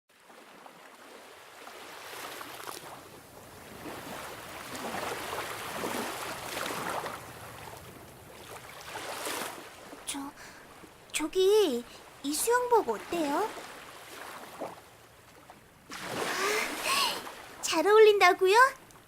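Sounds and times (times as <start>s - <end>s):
sea waves washing onto beach: 0.1s - 19.0s.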